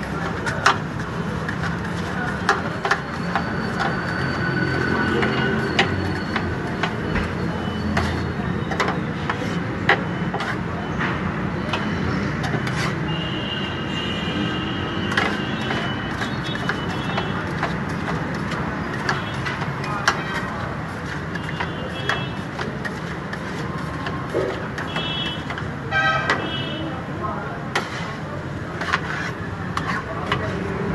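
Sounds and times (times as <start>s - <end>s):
steady background noise: 0.0s - 30.9s.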